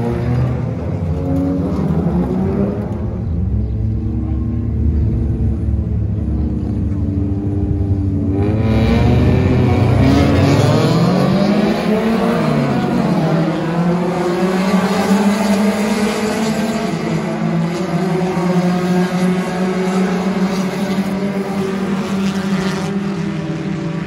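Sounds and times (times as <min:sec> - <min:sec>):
race car engines at full throttle: 0:00.0 - 0:24.0.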